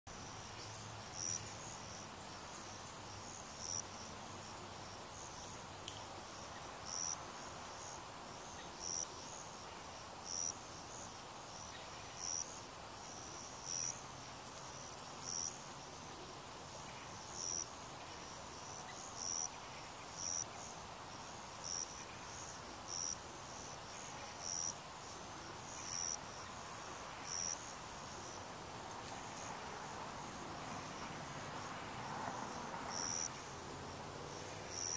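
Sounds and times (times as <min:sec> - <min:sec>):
insect chirping: 0:00.1 - 0:34.9.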